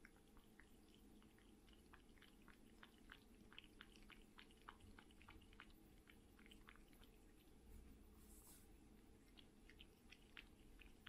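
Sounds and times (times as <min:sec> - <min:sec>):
cat lapping food: 0:00.0 - 0:08.1, 0:08.7 - 0:11.0.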